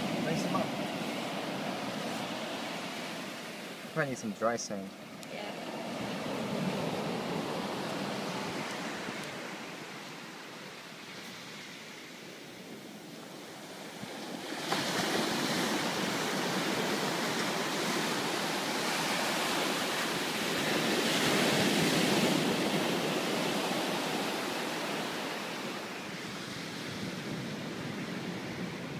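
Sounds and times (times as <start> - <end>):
ocean surf breaking: 0.0 - 28.9.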